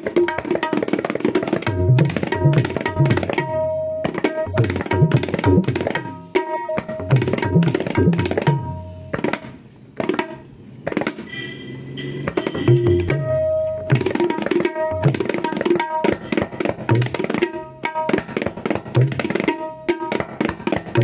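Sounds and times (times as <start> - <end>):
treble drum strokes: 1.4 - 11.3, 12.0 - 21.0.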